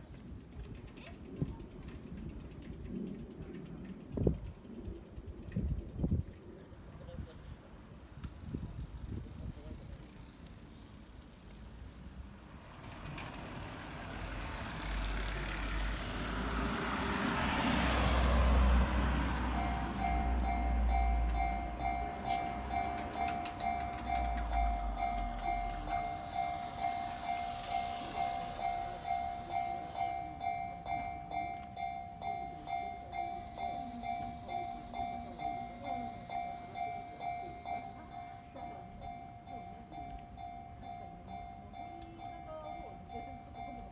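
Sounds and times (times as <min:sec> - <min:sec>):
train passing: 0:00.0 - 0:43.9
level crossing warning bell: 0:06.6 - 0:43.9.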